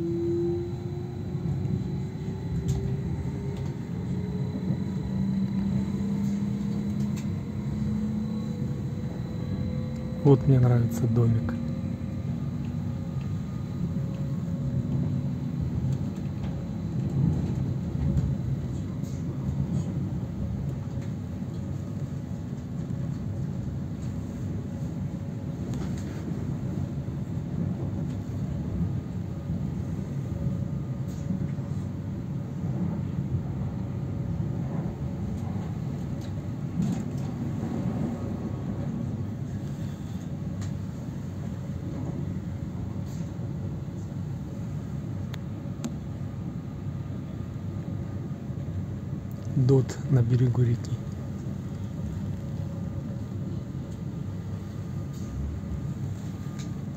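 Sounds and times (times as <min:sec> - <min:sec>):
faint hum: 0:00.0 - 0:56.9
train rumbling inside carriage: 0:00.0 - 0:56.9.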